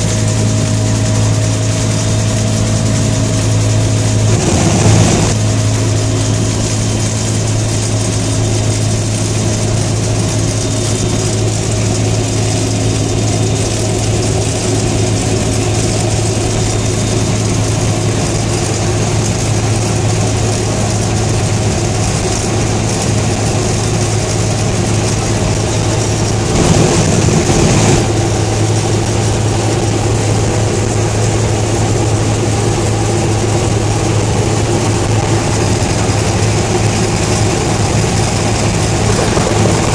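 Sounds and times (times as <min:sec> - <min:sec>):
helicopter turbine and rotor drone: 0:00.0 - 0:39.9.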